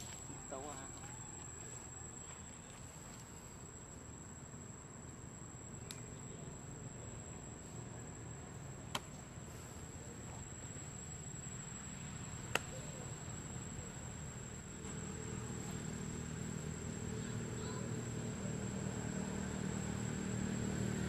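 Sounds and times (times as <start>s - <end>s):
high-pitched insect trill: 0.0s - 21.0s
low background hum: 0.0s - 21.0s.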